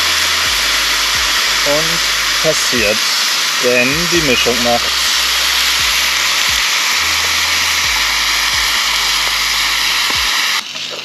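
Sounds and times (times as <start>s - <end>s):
background music with bass: 0.0s - 10.4s
sauce sizzling in a pot: 0.0s - 11.0s.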